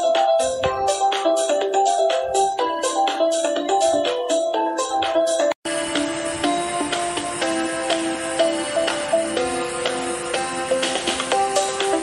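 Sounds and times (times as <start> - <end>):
melody over a clicking beat: 0.0 - 12.0.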